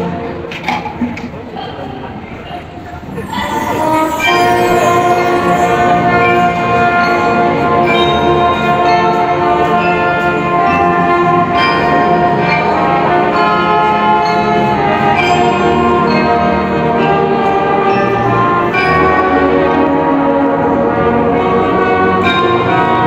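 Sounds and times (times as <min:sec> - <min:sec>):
marching band playing: 0:03.1 - 0:23.0.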